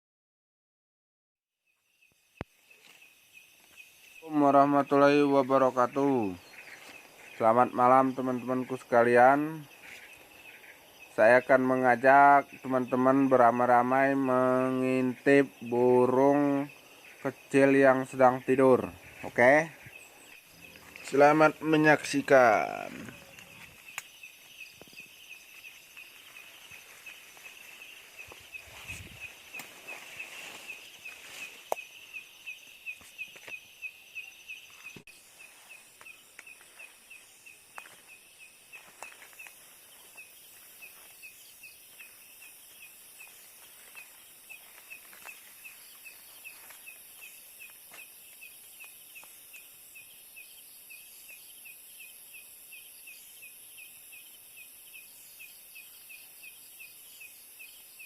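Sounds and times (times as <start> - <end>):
cricket chirping: 1.6 - 58.0
night insects hissing: 1.8 - 58.0.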